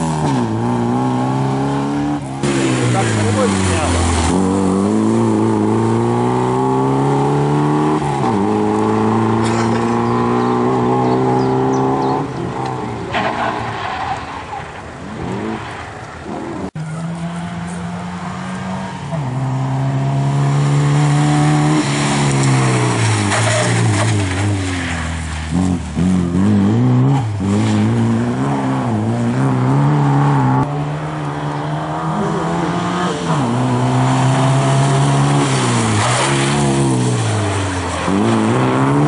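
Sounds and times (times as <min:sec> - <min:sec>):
rally car engines accelerating: 0:00.0 - 0:39.0.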